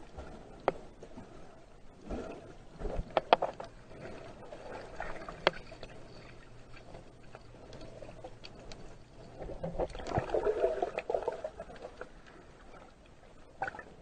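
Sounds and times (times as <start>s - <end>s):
muffled underwater water noise: 0.0s - 14.0s.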